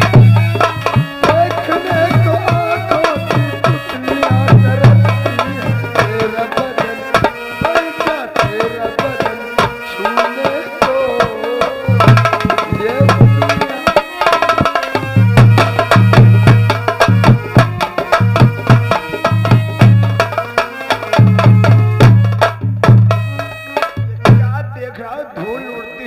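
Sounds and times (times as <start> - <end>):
deep bass drum notes: 0.0 - 7.8, 10.9 - 20.5, 21.2 - 24.7
melodic line: 0.0 - 22.0
hand drum strokes: 0.0 - 24.4.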